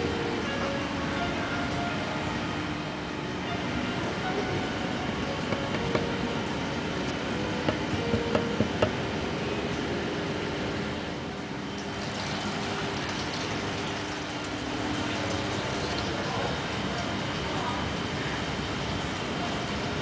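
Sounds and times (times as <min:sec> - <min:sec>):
air conditioning hum: 0:00.0 - 0:20.0.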